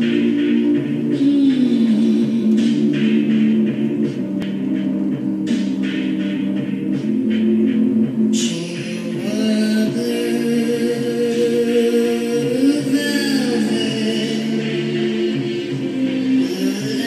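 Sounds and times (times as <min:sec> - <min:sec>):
soft backing music: 0:00.0 - 0:17.0.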